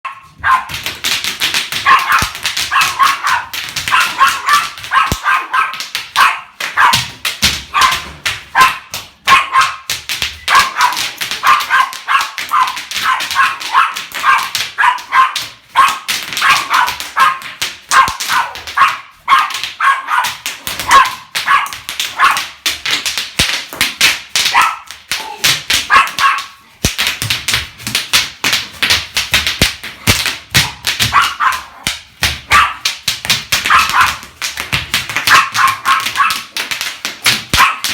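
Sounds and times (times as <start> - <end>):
rapid sharp popping: 0.7 - 37.9.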